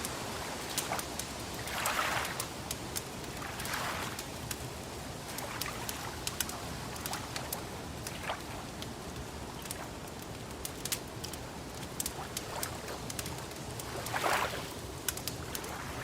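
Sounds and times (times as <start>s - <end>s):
wood fire crackling and popping: 0.0s - 16.0s
lake water lapping: 0.4s - 8.8s, 11.3s - 16.0s.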